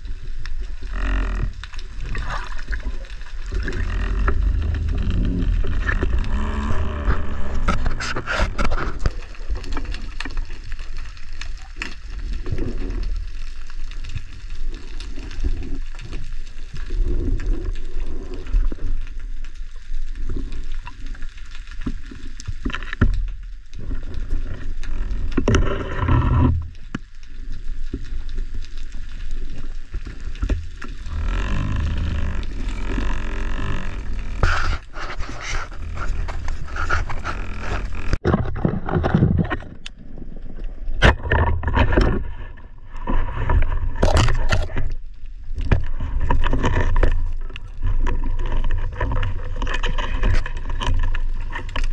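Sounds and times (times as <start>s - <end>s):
underwater clicks and crackles: 0.0s - 51.9s
underwater water rumble: 0.0s - 51.9s.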